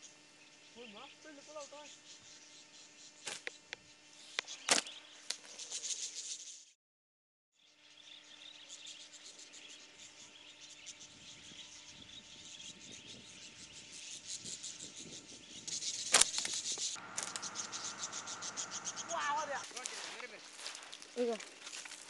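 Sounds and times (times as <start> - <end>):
insects chirring: 0.0 - 6.7, 7.6 - 22.0.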